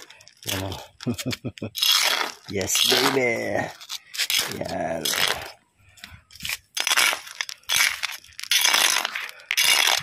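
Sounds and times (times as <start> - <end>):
trowel scraping gritty mix: 0.0 - 5.6, 6.3 - 10.0.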